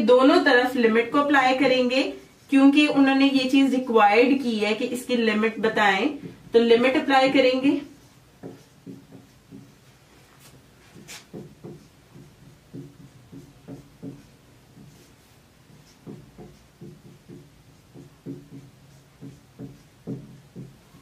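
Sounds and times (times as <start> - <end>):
marker pen writing on whiteboard: 0.0 - 21.0.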